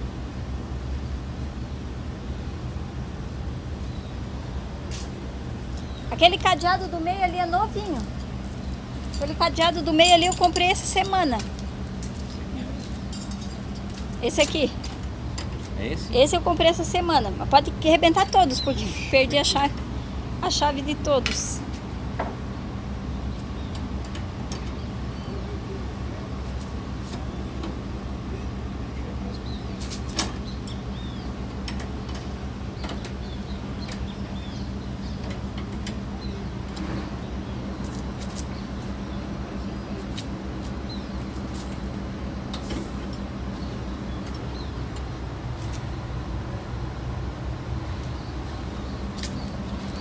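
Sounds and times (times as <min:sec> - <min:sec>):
engine idling hum: 0:00.0 - 0:50.0.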